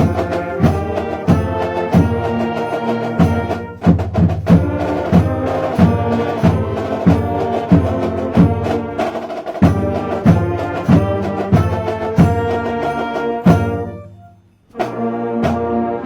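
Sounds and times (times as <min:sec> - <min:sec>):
steady drum beat: 0:00.0 - 0:15.8
brass chords: 0:00.0 - 0:16.0.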